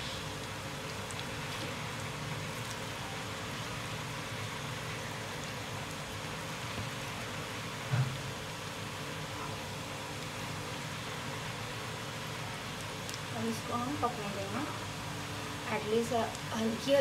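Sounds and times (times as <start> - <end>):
deep-frying sizzle: 0.0 - 17.0
oil crackles: 0.0 - 17.0.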